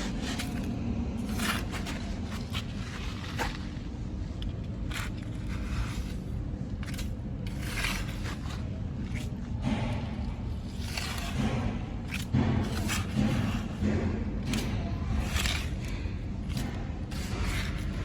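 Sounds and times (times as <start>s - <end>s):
gravel scraping and crunching: 0.0s - 18.0s
steady low rumble: 0.0s - 18.0s.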